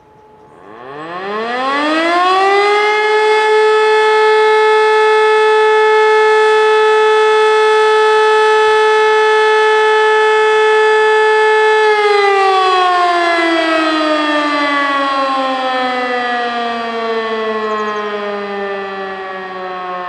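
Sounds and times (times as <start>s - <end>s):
distant siren: 0.0s - 20.0s
electric motor siren howling: 0.0s - 20.0s.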